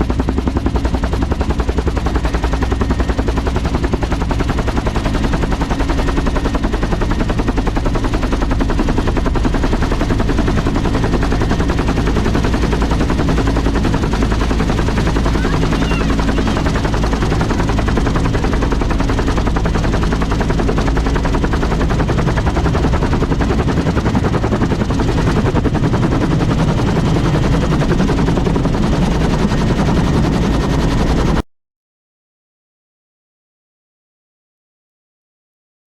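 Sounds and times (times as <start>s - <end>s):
aircraft engine pulsing: 0.0s - 29.9s.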